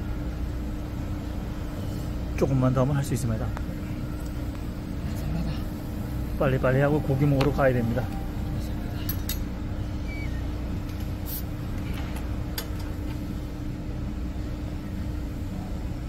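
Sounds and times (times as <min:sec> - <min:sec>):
low machine rumble and hum: 0:00.0 - 0:16.0.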